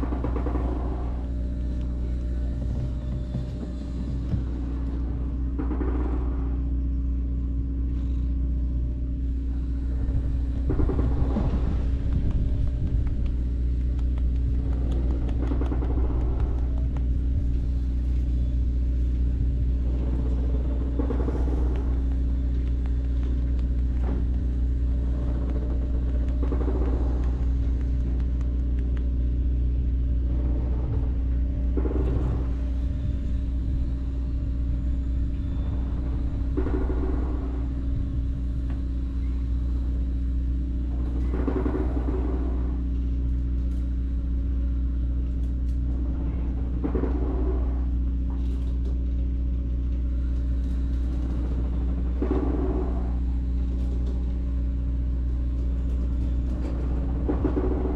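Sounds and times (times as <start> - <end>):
low engine drone: 0.0 - 57.9.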